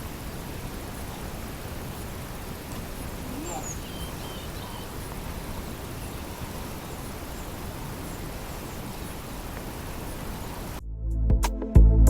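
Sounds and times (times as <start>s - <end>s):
outdoor background hiss: 0.0s - 10.8s.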